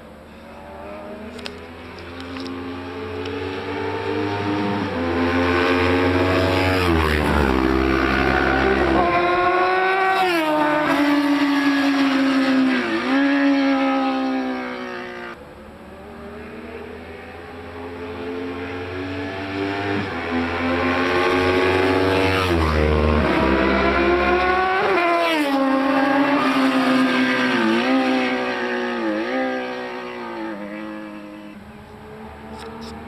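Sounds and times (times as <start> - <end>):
motorcycle engines racing past: 0.3 - 33.0.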